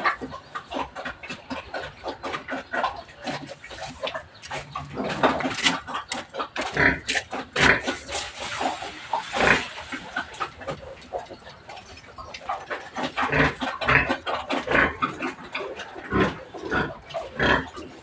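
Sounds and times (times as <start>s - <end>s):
pigs grunting and squealing: 0.0s - 18.0s.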